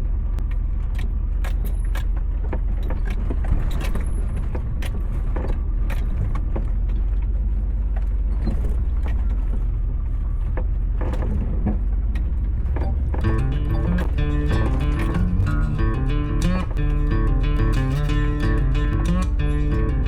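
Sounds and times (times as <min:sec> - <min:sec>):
pickup engine and road rumble: 0:00.0 - 0:20.0.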